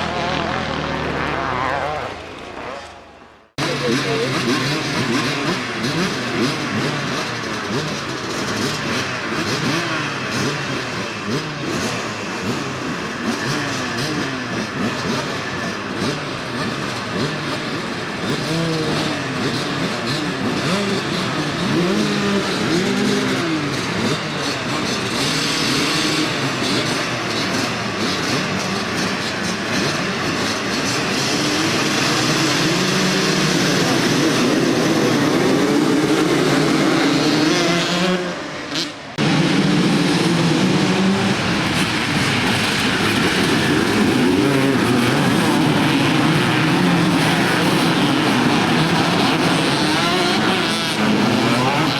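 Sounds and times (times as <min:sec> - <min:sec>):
motocross bikes revving: 0:00.0 - 0:51.9.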